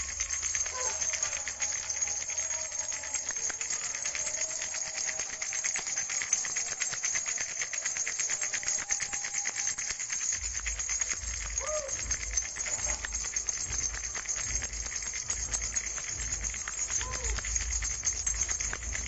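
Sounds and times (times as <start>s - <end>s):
plastic baby rattle shaken: 0.0s - 19.0s.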